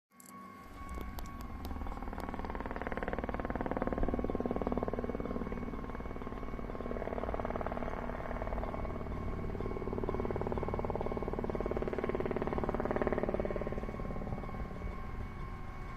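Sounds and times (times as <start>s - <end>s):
level crossing alarm ringing: 0.5s - 15.9s.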